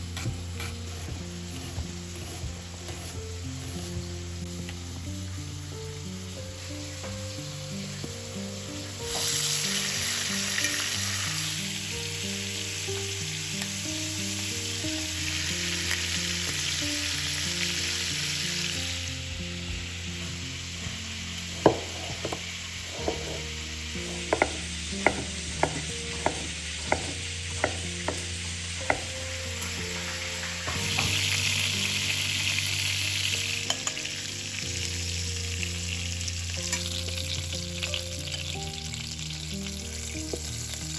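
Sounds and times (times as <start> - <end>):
food sizzling in frying pan: 0.0 - 40.9
soft background music: 0.0 - 40.9.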